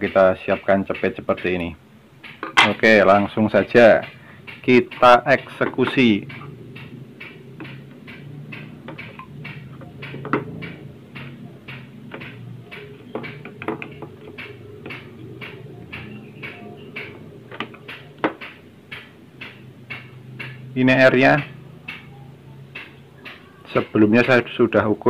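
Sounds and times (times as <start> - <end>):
low steady hum: 0.0 - 24.8.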